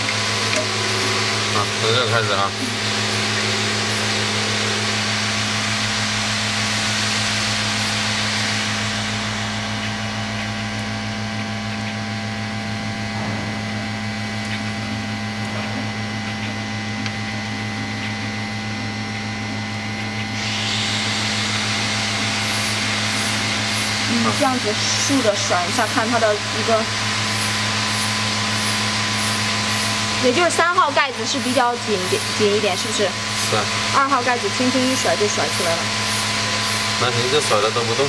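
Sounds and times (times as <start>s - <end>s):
machine low hum: 0.0s - 38.0s.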